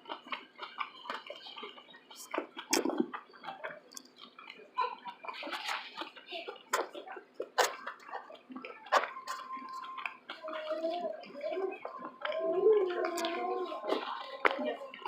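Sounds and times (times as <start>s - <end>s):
chewing and lip-smacking: 0.0s - 15.0s.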